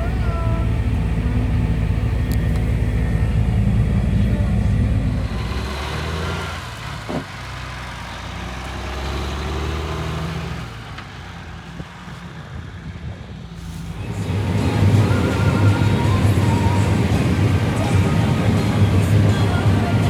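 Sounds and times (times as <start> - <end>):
farm machine engine running: 0.0 - 20.0.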